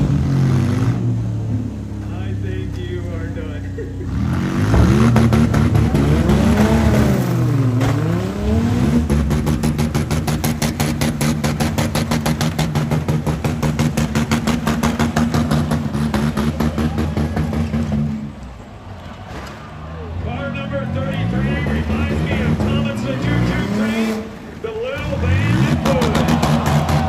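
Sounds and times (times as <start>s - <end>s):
minivan engine revving: 0.0s - 18.5s, 20.2s - 27.0s.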